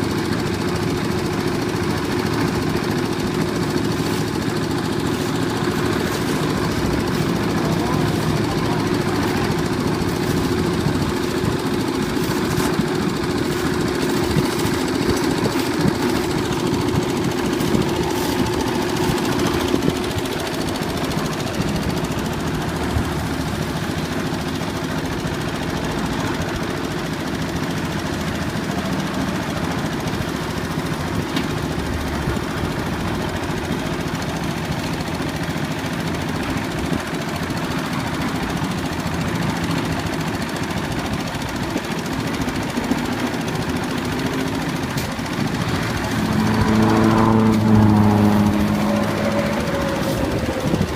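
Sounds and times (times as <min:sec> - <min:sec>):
diesel engine knocking: 0:00.0 - 0:50.9.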